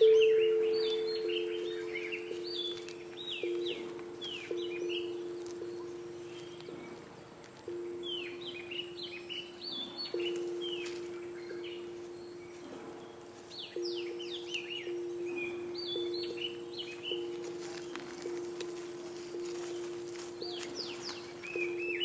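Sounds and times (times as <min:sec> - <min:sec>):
birds chirping: 0:00.0 - 0:22.0
low two-note ringing tone: 0:00.0 - 0:22.0.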